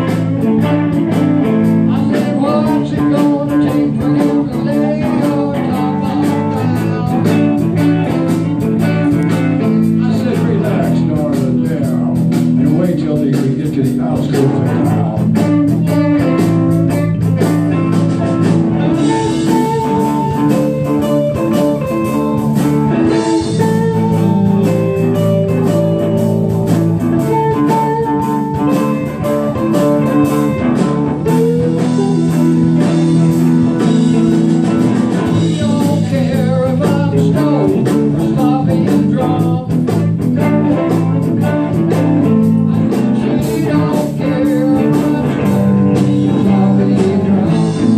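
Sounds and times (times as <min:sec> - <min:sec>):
live blues-rock band playing: 0:00.0 - 0:47.9.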